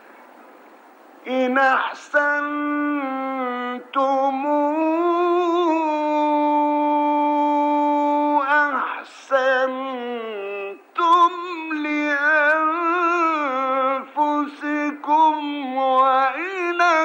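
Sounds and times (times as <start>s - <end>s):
man chanting melodically: 1.2s - 17.0s.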